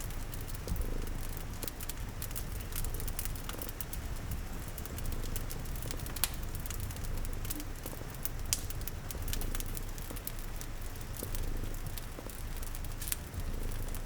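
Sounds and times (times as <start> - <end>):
log fire crackling and popping: 0.0 - 14.0
rain patter: 0.0 - 14.0.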